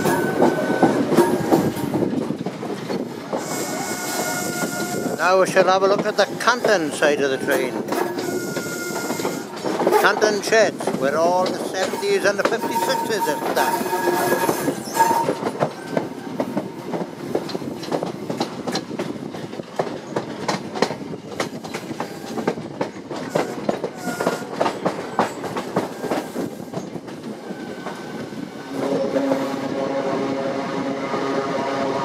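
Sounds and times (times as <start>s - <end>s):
train wheels clattering over rail joints: 0.0s - 29.7s.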